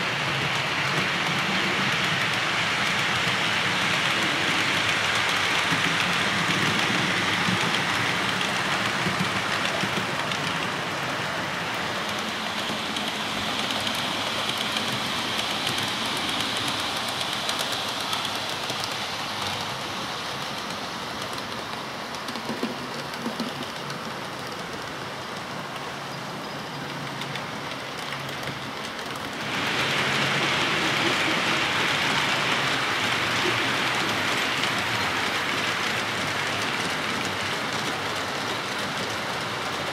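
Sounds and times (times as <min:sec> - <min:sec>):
model trains running on track: 0:00.0 - 0:39.9.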